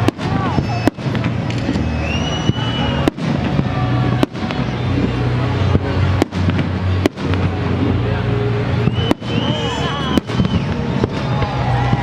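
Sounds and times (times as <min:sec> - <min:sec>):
background noise: 0:00.0 - 0:12.0
fireworks bangs: 0:00.0 - 0:12.0.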